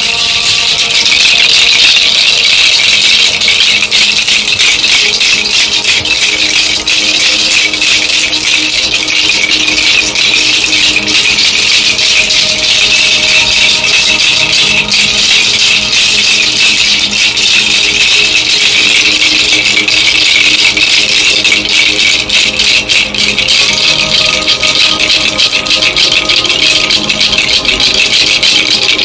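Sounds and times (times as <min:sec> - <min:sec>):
rattles and metal trinkets jingling: 0:00.0 - 0:29.0.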